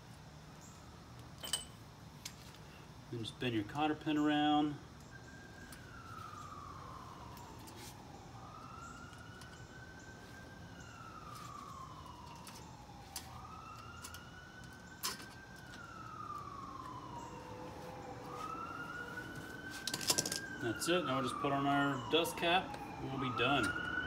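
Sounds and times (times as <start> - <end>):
siren wailing: 3.2 - 24.0.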